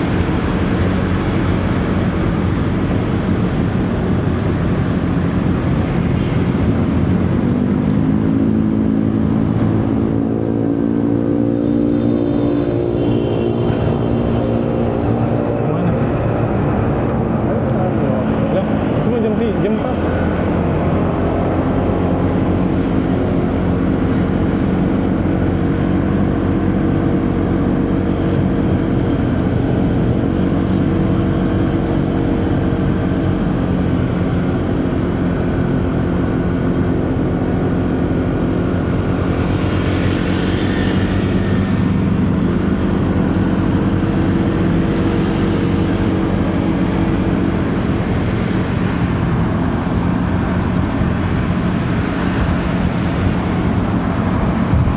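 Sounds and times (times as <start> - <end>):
tyre and traffic noise: 0.0 - 54.9.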